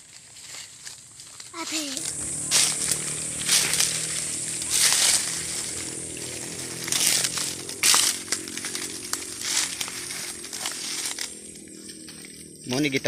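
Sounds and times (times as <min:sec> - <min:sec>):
leaves and branches rustling: 0:00.0 - 0:12.7
steady droning hum: 0:01.7 - 0:13.0.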